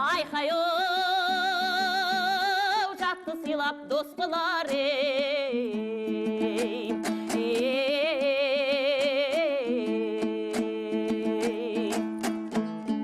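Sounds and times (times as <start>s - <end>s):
person singing long vowel: 0.0s - 12.2s
lute strumming: 0.0s - 13.0s.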